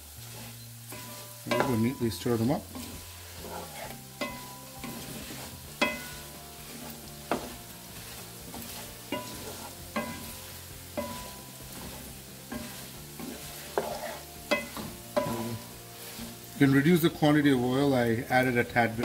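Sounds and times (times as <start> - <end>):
potatoes sizzling in hot oil: 0.0 - 19.0.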